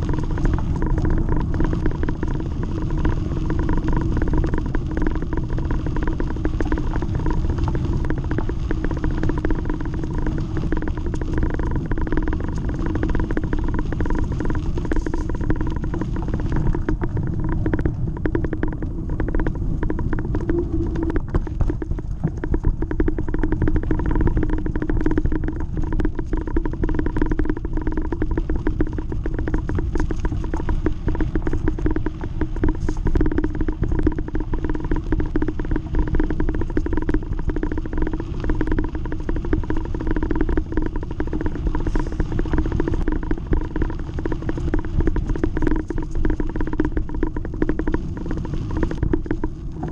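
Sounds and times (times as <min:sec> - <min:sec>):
bicycle rolling over gravel: 0:00.0 - 0:35.5, 0:36.2 - 0:49.9
constant hum: 0:00.0 - 0:49.9.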